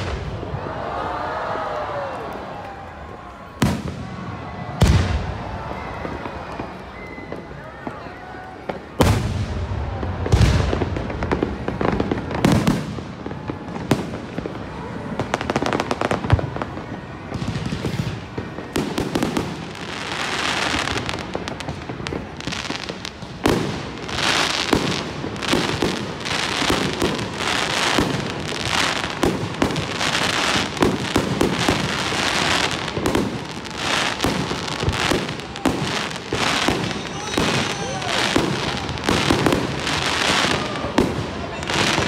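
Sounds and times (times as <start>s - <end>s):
fireworks bursting: 0.0s - 0.7s, 3.1s - 42.0s.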